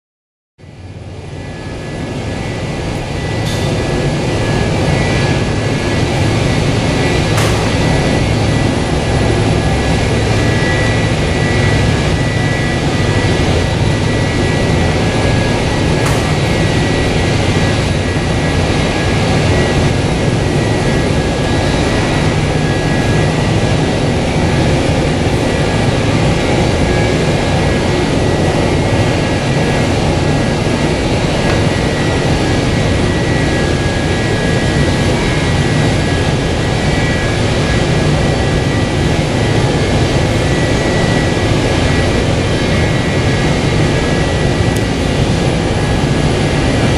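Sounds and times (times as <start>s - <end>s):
jet engines high whine: 0.6s - 46.9s
jet engines rumble: 0.6s - 46.9s.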